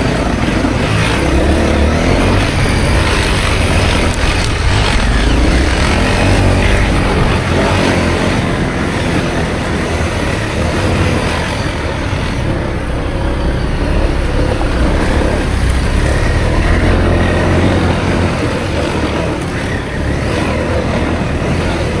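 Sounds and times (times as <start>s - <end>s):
heavy low rumble: 0.0s - 21.5s
motorcycle engine: 0.0s - 22.0s
road noise: 0.0s - 22.0s.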